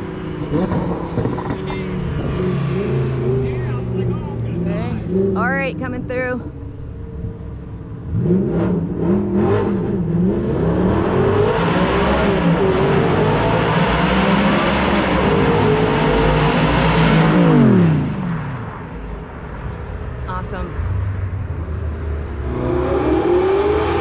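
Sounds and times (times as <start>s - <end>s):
car engine revving and accelerating: 0.0s - 24.0s.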